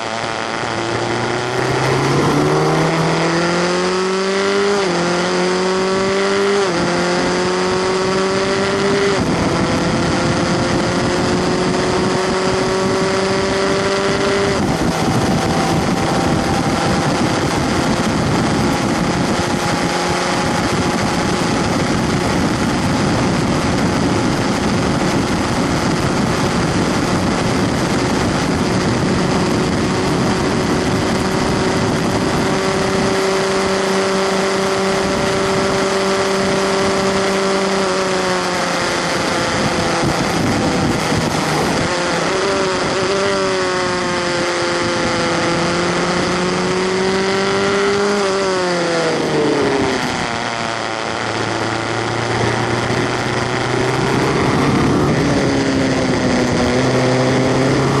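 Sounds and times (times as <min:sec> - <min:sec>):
constant rushing noise: 0:00.0 - 0:58.0
gear upshifts: 0:00.0 - 0:58.0
race car engine revving: 0:00.0 - 0:58.0.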